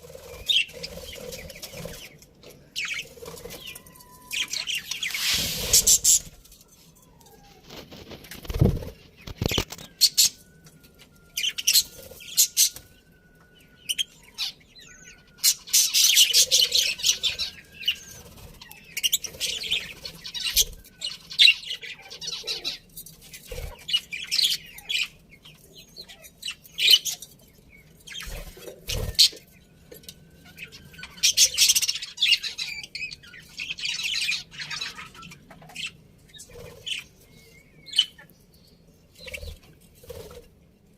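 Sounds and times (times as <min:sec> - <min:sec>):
budgerigars chirping and chattering: 0:00.0 - 0:06.4, 0:08.0 - 0:10.5, 0:11.3 - 0:12.9, 0:13.8 - 0:29.5, 0:30.4 - 0:40.4.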